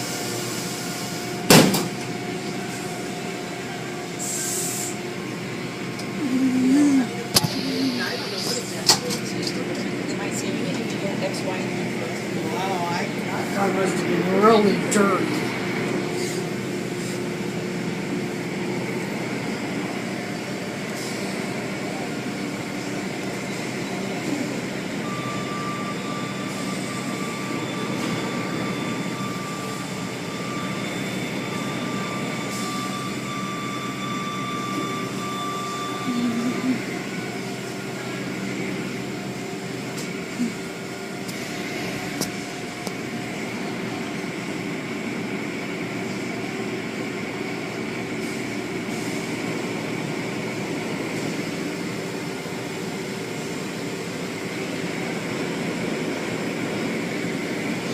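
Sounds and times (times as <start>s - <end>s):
car wash machinery running: 0.0s - 57.9s
thin steady whine: 0.0s - 57.9s.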